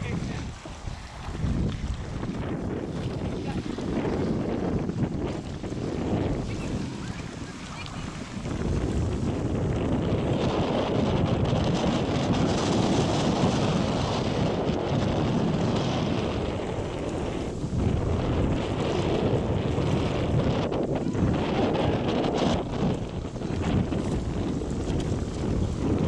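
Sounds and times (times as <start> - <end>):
water rushing around boat: 0.0 - 26.0
wind buffeting microphone: 0.0 - 26.0.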